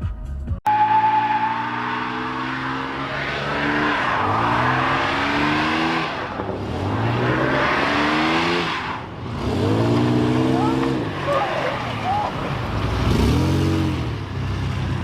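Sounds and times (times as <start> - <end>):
car engine accelerating: 0.7 - 15.0.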